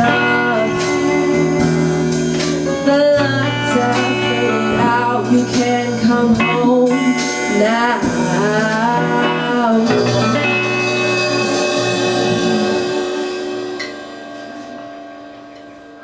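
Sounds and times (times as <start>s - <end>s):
person singing: 0.0s - 14.0s
rock band playing: 0.0s - 16.0s.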